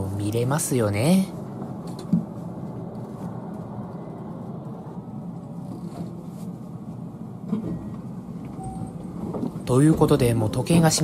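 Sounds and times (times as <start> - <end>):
electric train hum and rumble: 0.0 - 11.0.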